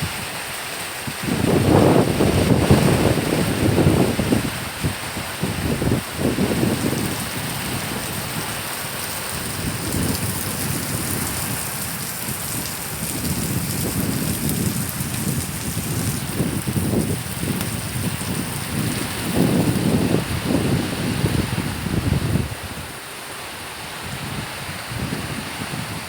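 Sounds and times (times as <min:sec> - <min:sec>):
wind buffeting microphone: 0:00.0 - 0:23.0, 0:23.8 - 0:26.0
heavy rain pouring: 0:00.0 - 0:26.0.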